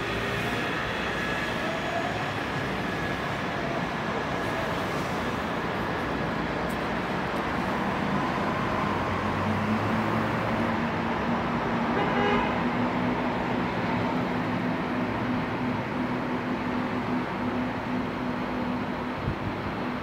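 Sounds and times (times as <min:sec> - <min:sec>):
distant city traffic hum: 0:00.0 - 0:20.0
tram running: 0:00.0 - 0:20.0.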